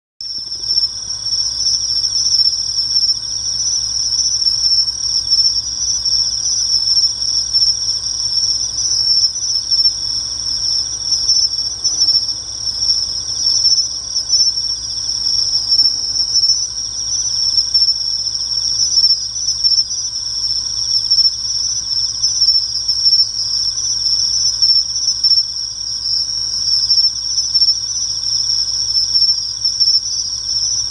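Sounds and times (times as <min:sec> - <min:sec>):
crickets chirping: 0:00.2 - 0:30.9.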